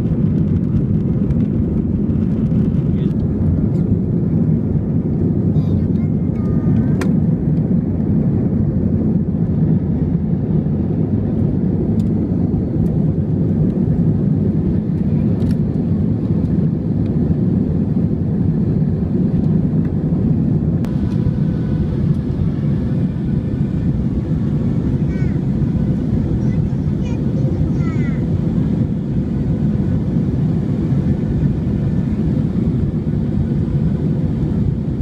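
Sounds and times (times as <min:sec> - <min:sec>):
airliner cabin jet engine rumble: 0:00.0 - 0:35.0.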